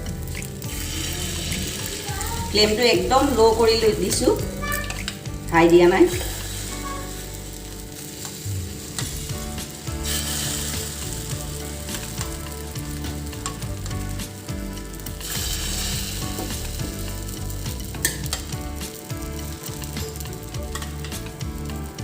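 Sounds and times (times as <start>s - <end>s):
sandwiches sizzling in oil: 0.0s - 22.0s.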